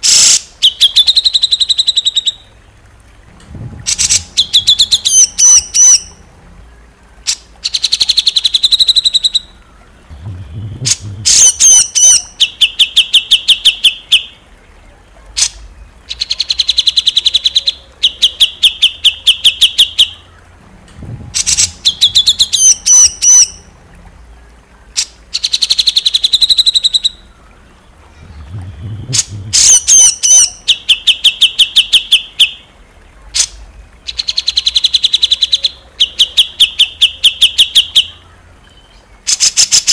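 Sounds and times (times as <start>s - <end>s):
songbird staccato notes and trills: 0.0s - 39.9s.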